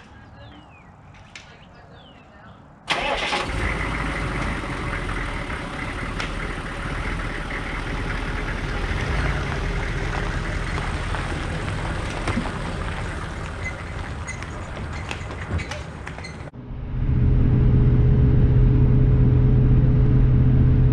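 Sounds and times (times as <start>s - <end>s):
road noise: 0.0s - 20.9s
vehicle engine rumble: 0.0s - 20.9s.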